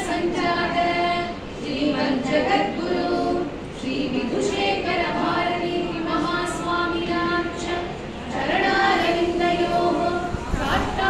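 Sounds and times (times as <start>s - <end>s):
women singing a hymn: 0.0s - 11.0s.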